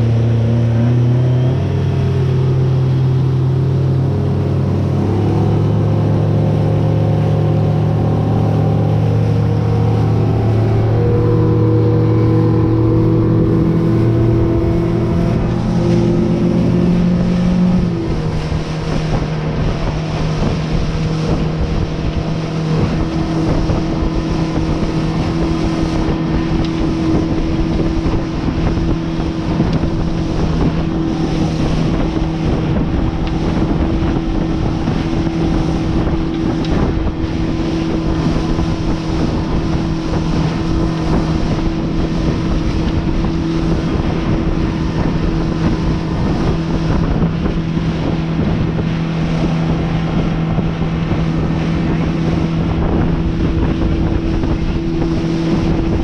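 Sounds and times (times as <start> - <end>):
motorboat engine humming: 0.0 - 56.0
wind buffeting microphone: 0.0 - 56.0.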